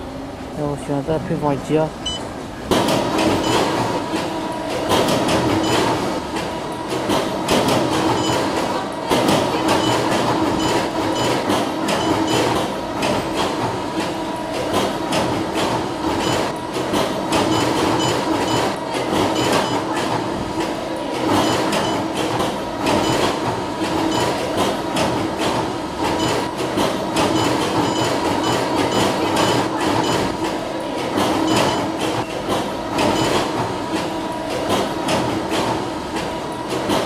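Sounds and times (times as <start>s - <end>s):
machinery hum: 0.0s - 37.0s
machinery clattering clicks: 2.7s - 37.0s.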